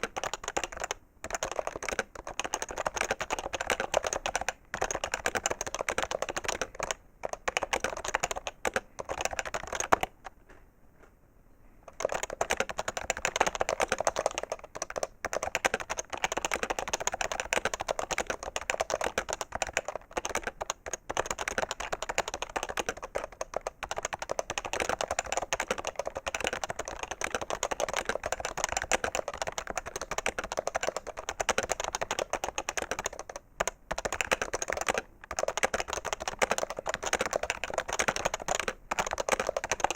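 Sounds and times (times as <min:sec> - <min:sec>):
fast keyboard typing: 0:00.0 - 0:10.3, 0:11.9 - 0:39.9.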